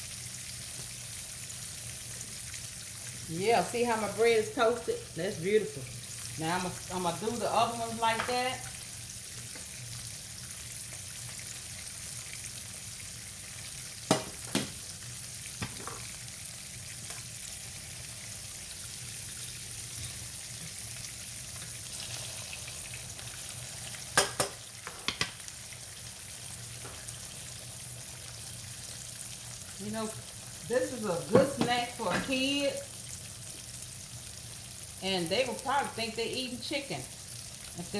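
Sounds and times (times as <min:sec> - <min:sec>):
meat sizzling in oil: 0:00.0 - 0:37.9.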